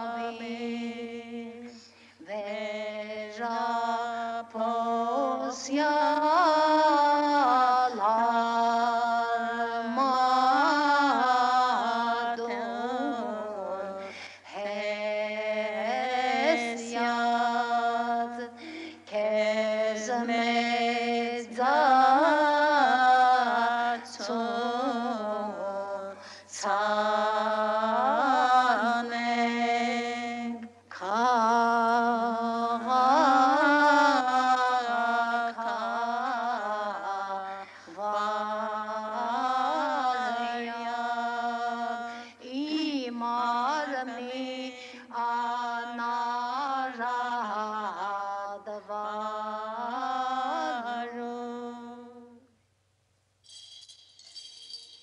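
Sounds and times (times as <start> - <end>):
chant-like singing: 0.0 - 52.5.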